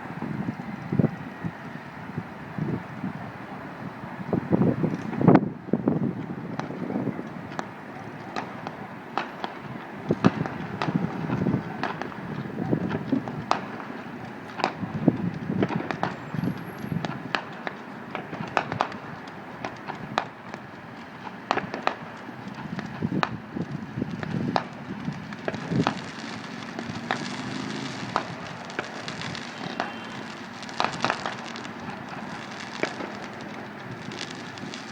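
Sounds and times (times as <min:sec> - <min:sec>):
fireworks cracking and popping: 0:04.2 - 0:34.9.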